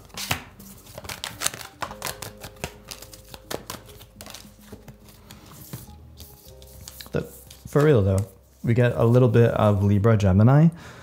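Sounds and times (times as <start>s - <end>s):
cards being shuffled: 0.0s - 9.8s.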